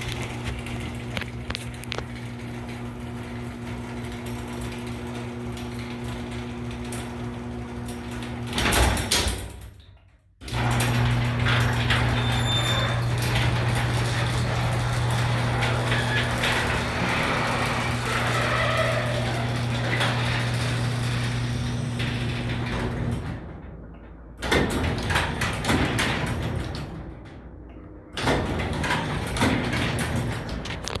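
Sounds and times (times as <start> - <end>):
rattling clattering noise: 0.0 - 5.1, 10.5 - 31.0
garage door opener motor hum: 0.0 - 31.0.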